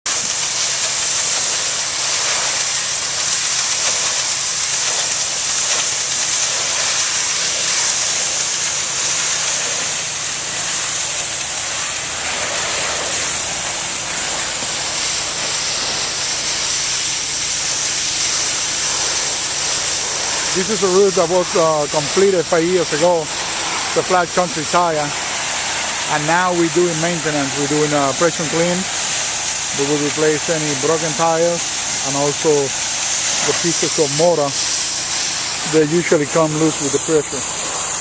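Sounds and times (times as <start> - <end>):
pressure washer spraying tiles: 0.0 - 38.0.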